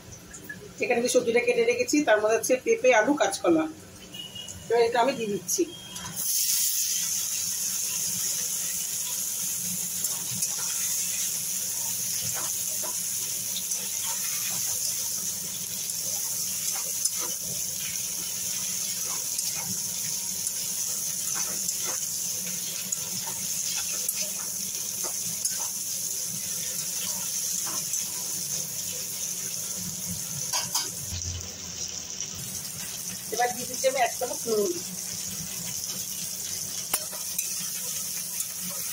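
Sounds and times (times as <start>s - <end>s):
vegetables sizzling in hot oil: 0.0s - 38.9s.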